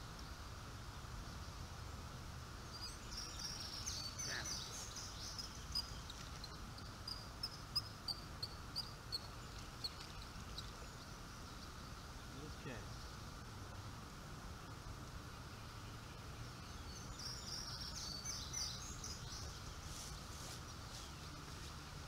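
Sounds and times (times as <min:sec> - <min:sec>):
steady background noise: 0:00.0 - 0:22.0
small bird chirping: 0:02.6 - 0:13.4, 0:14.6 - 0:21.8.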